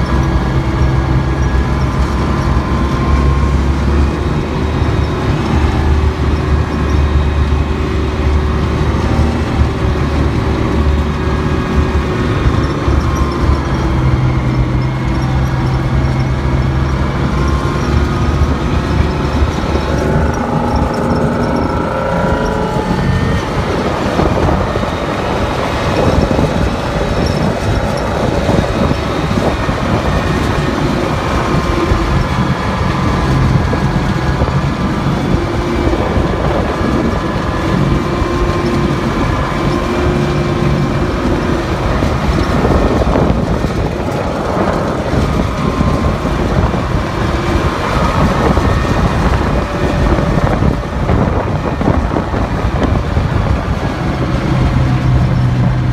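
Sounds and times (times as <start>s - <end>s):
rumbling and rattling: 0.0s - 55.9s
vehicle engine running: 0.0s - 55.9s
wind on microphone: 0.0s - 55.9s.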